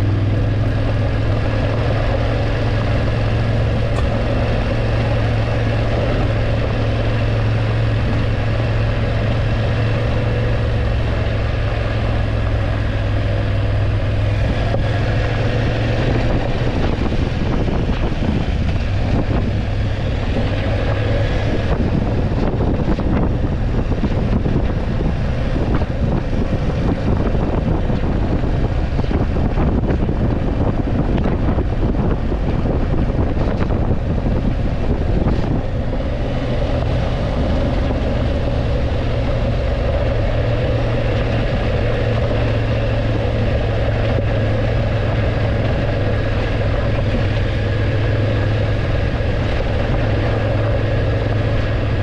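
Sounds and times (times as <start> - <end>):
motorcycle engine running: 0.0 - 52.0
wind noise: 0.0 - 52.0.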